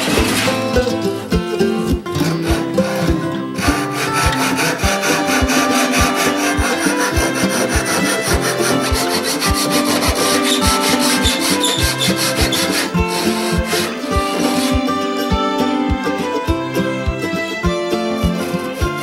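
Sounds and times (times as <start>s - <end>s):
pull saw cutting wood: 0.0s - 15.4s, 18.0s - 19.0s
background music with beat: 0.0s - 19.0s.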